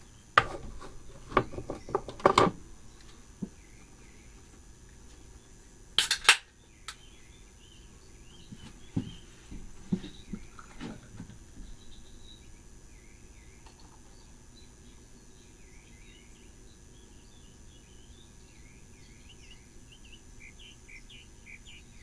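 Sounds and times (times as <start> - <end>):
birds chirping: 0.0 - 5.9, 6.5 - 22.0
low steady hum: 0.0 - 22.0.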